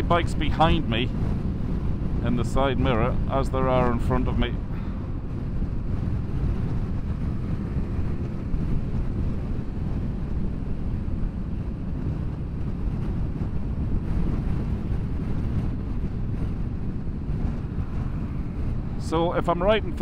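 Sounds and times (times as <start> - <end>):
road noise: 0.0 - 20.0
wind rush on microphone: 0.0 - 20.0.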